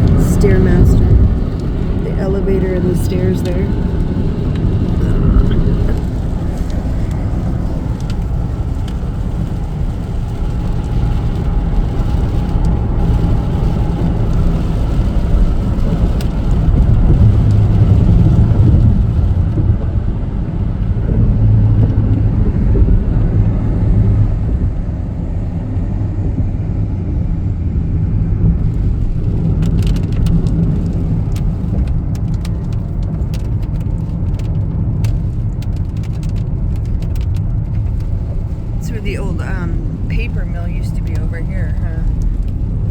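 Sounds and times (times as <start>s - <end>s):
road and engine rumble in car: 0.0s - 42.9s.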